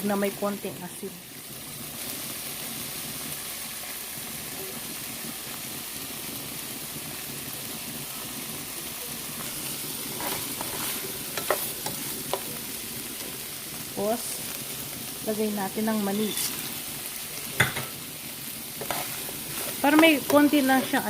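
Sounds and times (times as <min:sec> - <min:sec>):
food sizzling in frying pan: 0:00.0 - 0:21.0.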